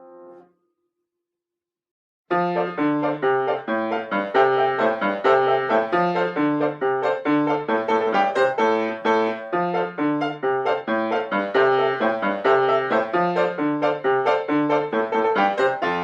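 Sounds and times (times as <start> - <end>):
lively solo piano dance: 2.3 - 16.0.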